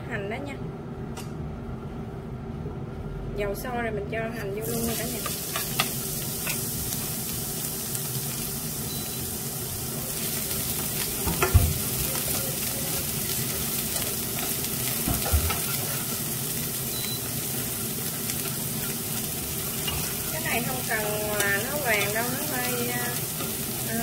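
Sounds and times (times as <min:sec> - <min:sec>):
scallions sizzling in oil: 0:04.6 - 0:24.0.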